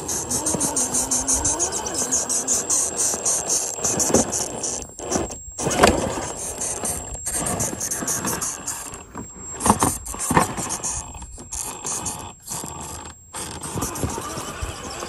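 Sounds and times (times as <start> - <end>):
electric motor whine: 0.0 - 15.0
tires scrabbling on rock: 0.0 - 15.0.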